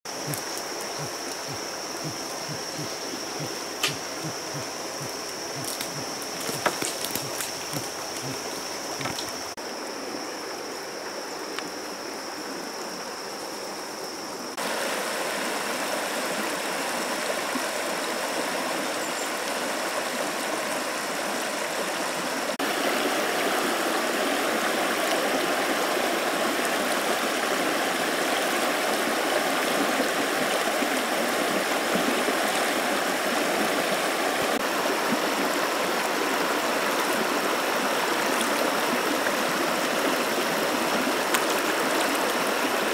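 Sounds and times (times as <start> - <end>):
water rushing over stones: 0.1 - 9.6, 14.6 - 42.9.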